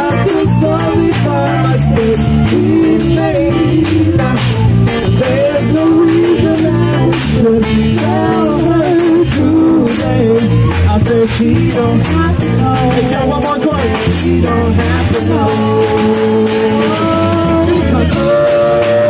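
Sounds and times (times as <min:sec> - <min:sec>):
bass guitar: 0:00.0 - 0:19.0
drum kit: 0:00.0 - 0:19.0
electric guitar: 0:00.0 - 0:19.0
man singing: 0:00.0 - 0:19.0.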